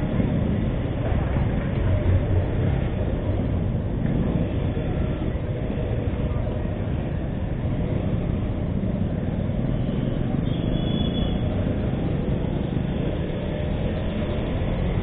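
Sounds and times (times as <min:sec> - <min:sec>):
motorcycle engine rumble: 0:00.0 - 0:15.0
road and wind noise: 0:00.0 - 0:15.0.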